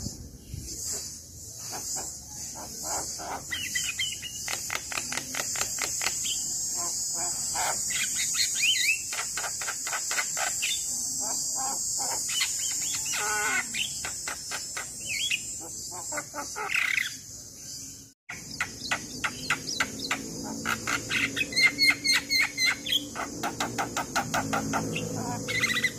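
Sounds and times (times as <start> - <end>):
bird chattering and whistling: 0.5 - 17.2, 18.3 - 25.9
high-pitched insect drone: 0.7 - 17.3, 18.3 - 25.9.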